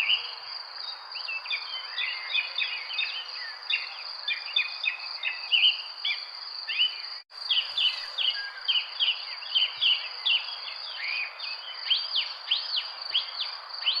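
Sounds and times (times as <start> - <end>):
birds chirping: 1.2 - 14.0.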